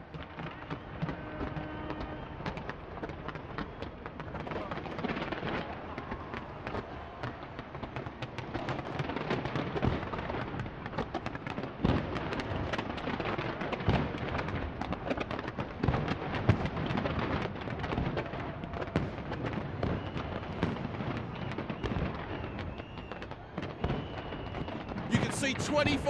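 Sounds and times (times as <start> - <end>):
fireworks bangs and crackles: 0.0 - 26.0
loud fireworks booms: 0.0 - 26.0.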